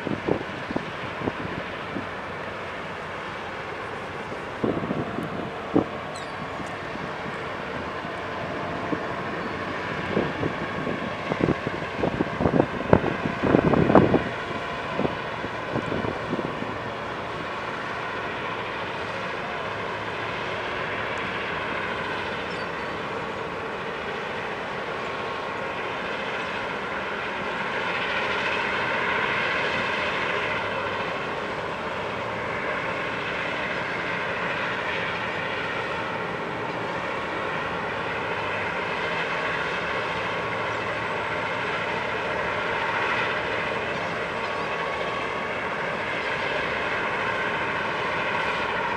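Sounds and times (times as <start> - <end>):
engine drone: 0.0 - 48.9.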